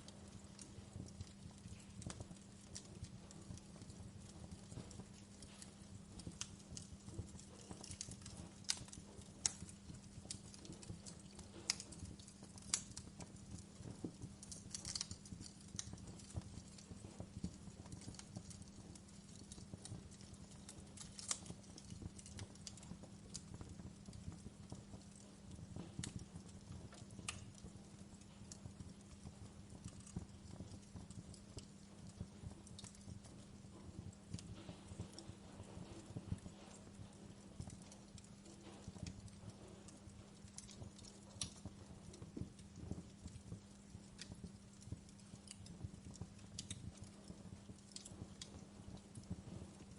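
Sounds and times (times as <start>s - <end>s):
faint low hum: 0.0s - 49.9s
wood fire crackling and popping: 0.0s - 49.9s.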